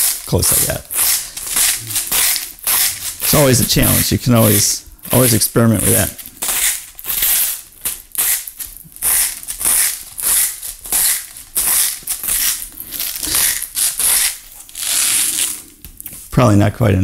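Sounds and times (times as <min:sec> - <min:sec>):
salt mill grinding: 0:00.0 - 0:15.5.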